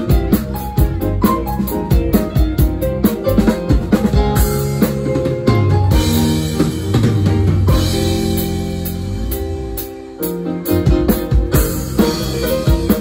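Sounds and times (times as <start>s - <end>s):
drum strokes: 0.0s - 13.0s
live band playing instrumental: 0.0s - 13.0s.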